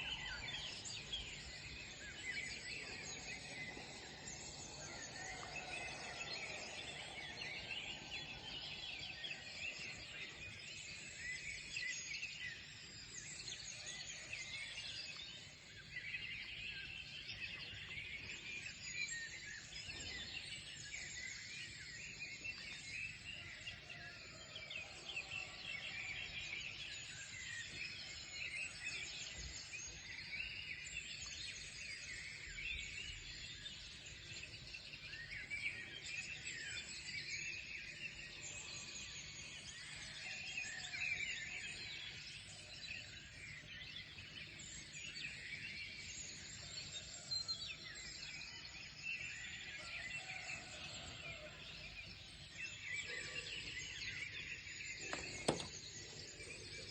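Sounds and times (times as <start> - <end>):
small birds chirping and trilling: 0.0 - 56.9.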